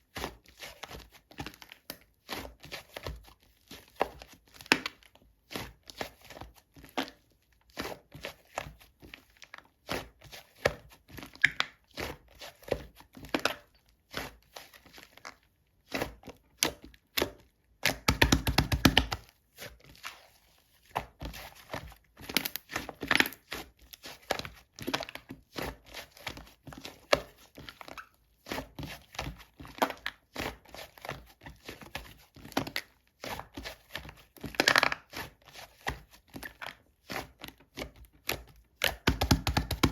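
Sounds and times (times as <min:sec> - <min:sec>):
slime squelching and popping: 0:00.1 - 0:39.9.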